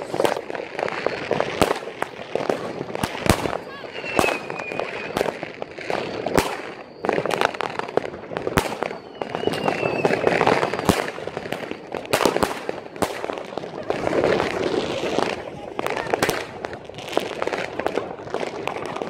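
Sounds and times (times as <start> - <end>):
whistling rocket: 0.0 - 16.8
firecracker bangs: 0.0 - 19.0
fireworks crackling: 0.0 - 19.0.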